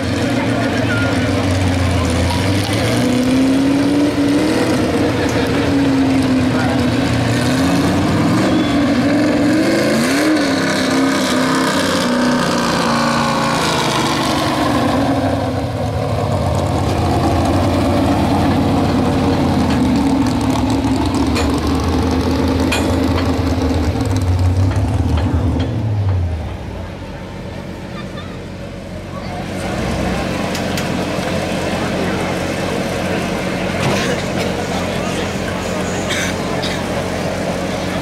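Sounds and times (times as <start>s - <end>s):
truck engine running loud: 0.0s - 38.0s.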